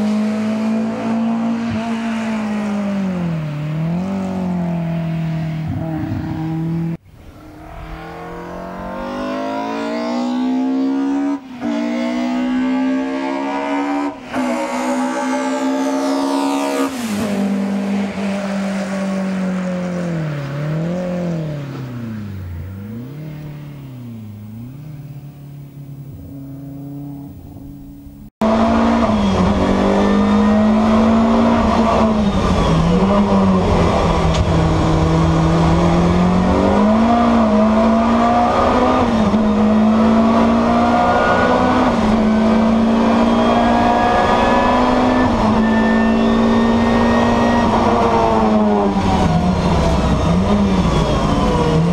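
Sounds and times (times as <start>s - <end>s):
racing car engine revving: 0.0s - 51.9s.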